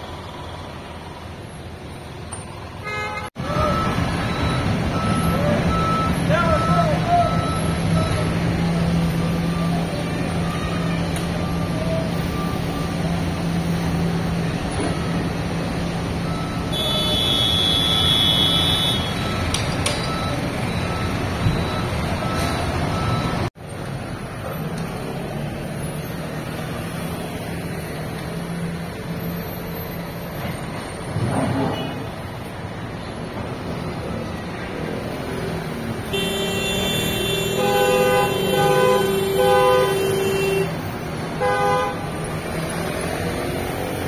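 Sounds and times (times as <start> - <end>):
light traffic noise: 0.0 - 44.0.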